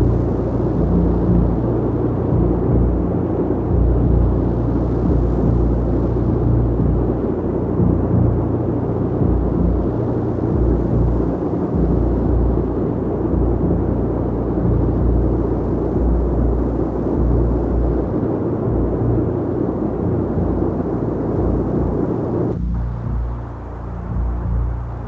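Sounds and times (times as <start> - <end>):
propeller plane engines droning: 0.0 - 25.0.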